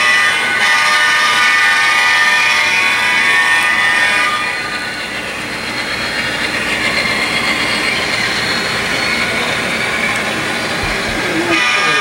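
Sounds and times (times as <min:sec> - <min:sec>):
model diesel locomotive engine: 0:00.0 - 0:12.0.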